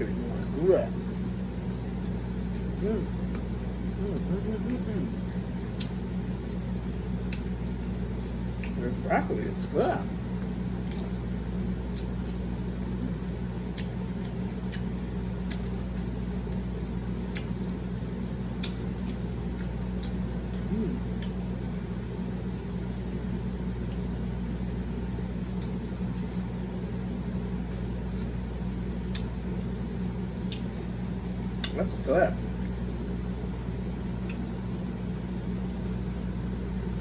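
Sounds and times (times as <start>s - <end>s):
chewing crisp broccoli: 0.0s - 37.0s
steady low hum: 0.0s - 37.0s.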